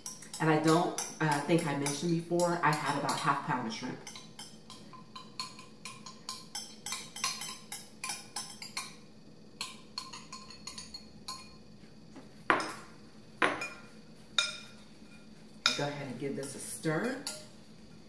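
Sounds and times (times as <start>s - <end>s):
spoon clinking on glass bowl: 0.0s - 9.0s, 9.6s - 11.6s, 13.4s - 17.5s.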